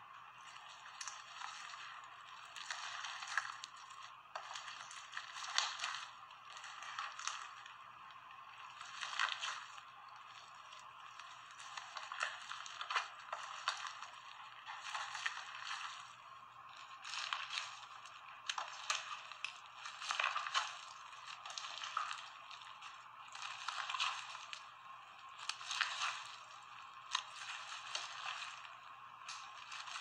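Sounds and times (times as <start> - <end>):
slime squishing and crackling: 0.0 - 30.0.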